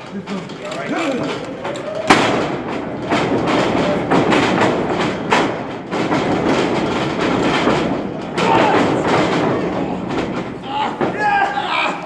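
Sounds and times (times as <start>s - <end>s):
wrestling ring thudding and rattling: 0.0s - 12.0s.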